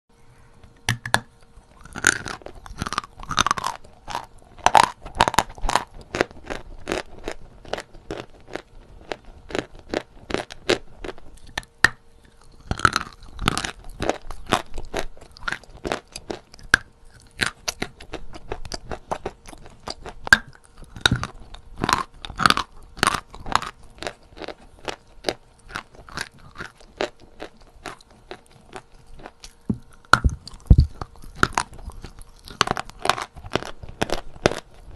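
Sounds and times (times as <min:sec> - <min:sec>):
chalk crunching while chewed: 0:00.6 - 0:34.9.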